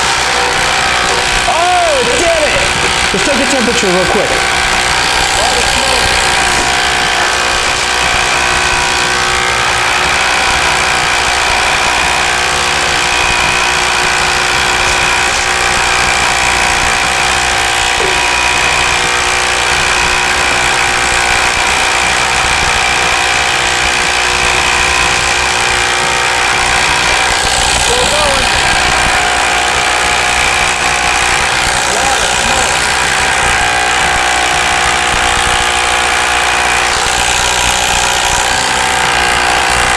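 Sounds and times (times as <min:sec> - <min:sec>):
impact driver hammering: 0:00.0 - 0:39.9.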